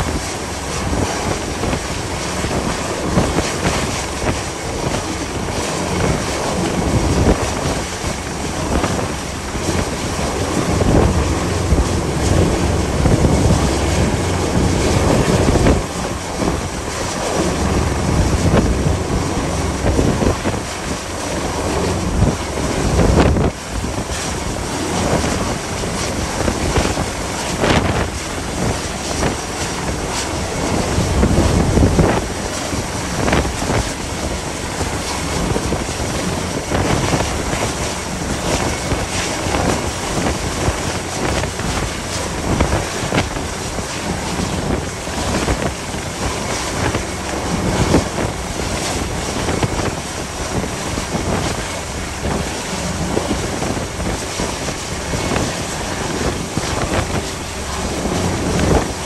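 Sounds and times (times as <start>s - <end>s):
rough sea rushing: 0.0s - 59.0s
wind buffeting microphone: 0.0s - 59.0s.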